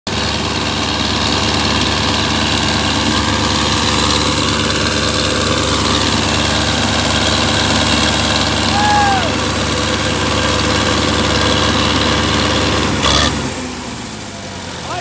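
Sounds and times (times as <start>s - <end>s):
tractor diesel engine idling: 0.1s - 15.0s.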